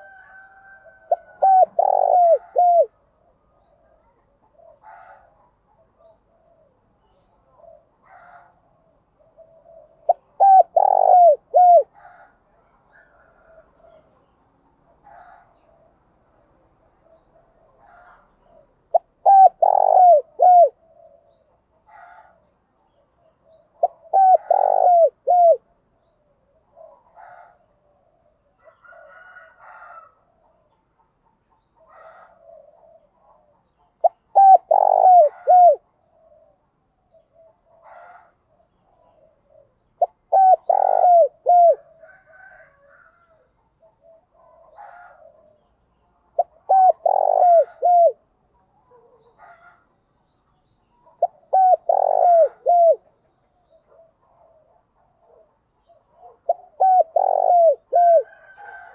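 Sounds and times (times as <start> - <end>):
dove cooing: 0.0 - 16.0, 17.0 - 30.8, 31.6 - 49.9, 51.0 - 58.9.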